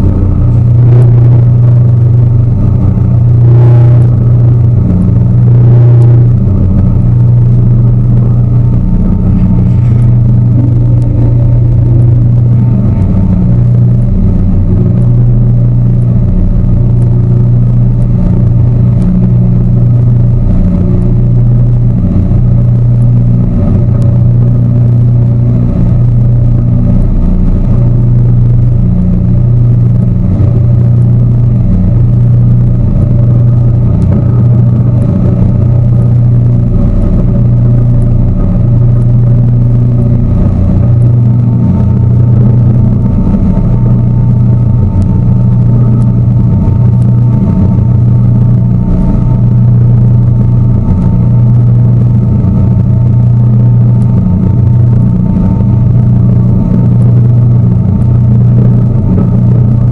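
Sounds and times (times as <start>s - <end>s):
boat motor humming: 0.0s - 59.9s.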